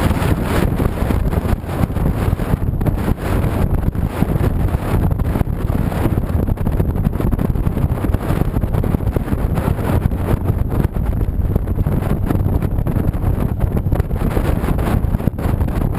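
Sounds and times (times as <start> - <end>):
motorcycle engine rumble: 0.0 - 15.9
wind rushing over microphone: 0.0 - 15.9.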